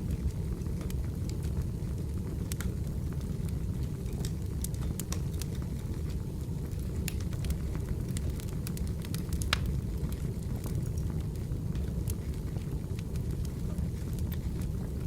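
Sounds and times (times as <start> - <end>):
fire rumbling: 0.0 - 15.0
firewood crackling and popping: 0.0 - 15.0.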